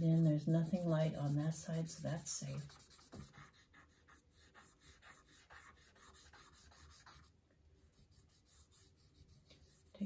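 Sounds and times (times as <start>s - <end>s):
charcoal scratching on paper: 0.0s - 10.0s.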